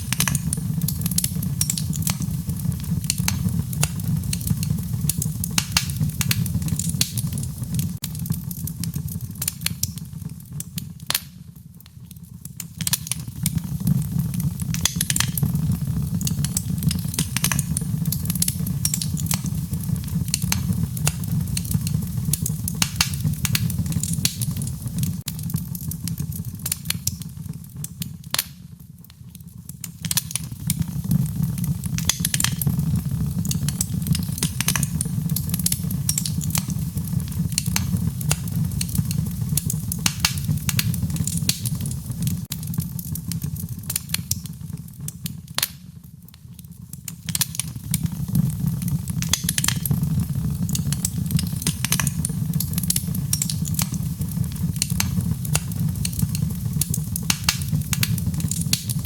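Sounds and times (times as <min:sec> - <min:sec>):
burning logs crackling and popping: 0:00.0 - 0:59.0
low rumble of flames: 0:00.0 - 0:59.0.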